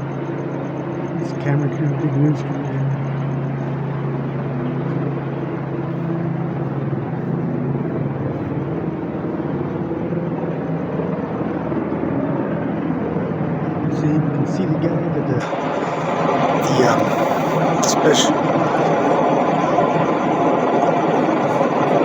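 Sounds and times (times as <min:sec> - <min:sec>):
street noise: 0:00.0 - 0:22.0.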